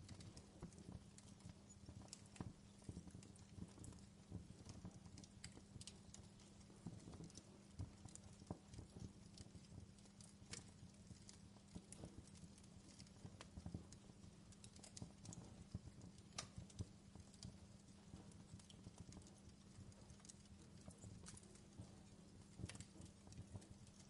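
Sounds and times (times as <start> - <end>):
soft steady rumble: 0.0 - 24.0
wood fire crackling: 0.0 - 24.0.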